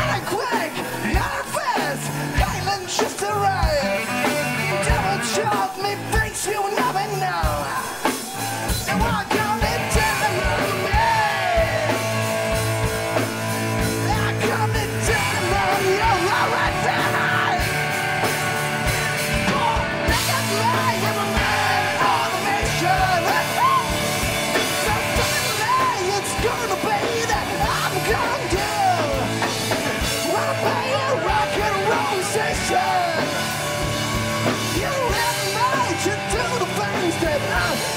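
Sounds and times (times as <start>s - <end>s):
man singing: 0.0s - 12.6s, 13.8s - 33.8s, 34.4s - 37.9s
rock band playing: 0.0s - 37.9s.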